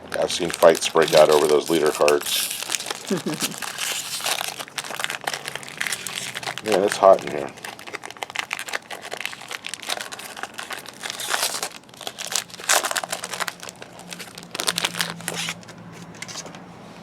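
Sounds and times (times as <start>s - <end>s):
wrapper crinkling and tearing: 0.0s - 16.4s.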